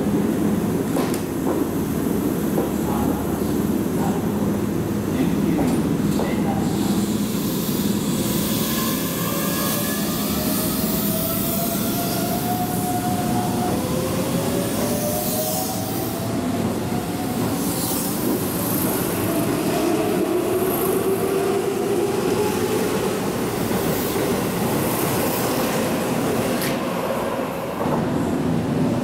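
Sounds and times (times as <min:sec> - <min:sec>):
train cars rumbling and rattling: 0:00.0 - 0:29.0.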